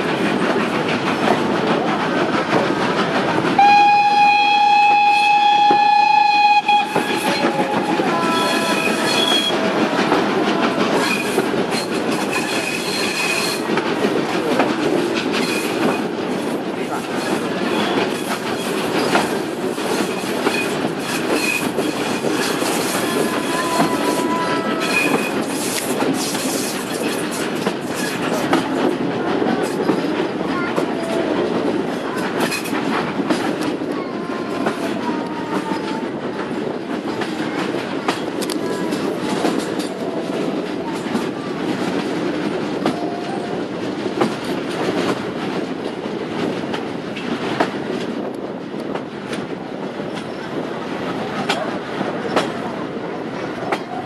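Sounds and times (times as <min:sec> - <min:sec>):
rail joint clicks: 0:00.0 - 0:54.0
train carriages rolling rumble: 0:00.0 - 0:54.0.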